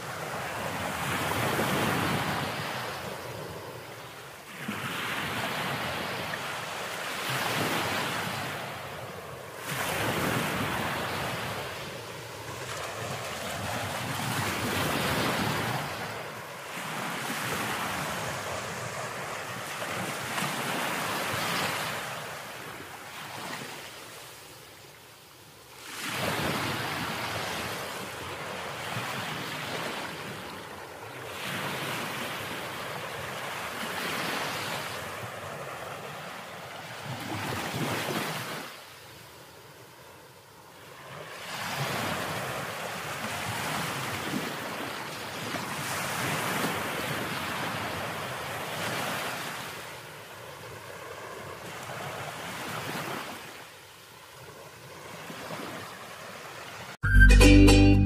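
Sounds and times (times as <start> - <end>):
ocean surf on beach: 0.0 - 57.0.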